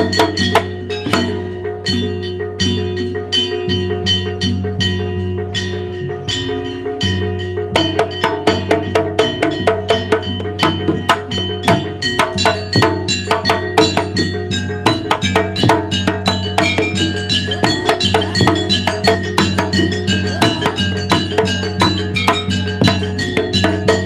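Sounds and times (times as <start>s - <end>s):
gamelan percussion music: 0.0s - 24.0s
ringing tuned metal tones: 0.0s - 24.0s.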